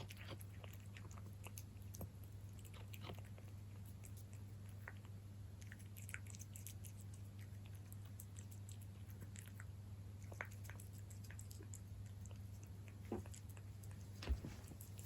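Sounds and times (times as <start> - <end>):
cat chewing and lapping food: 0.0 - 15.0.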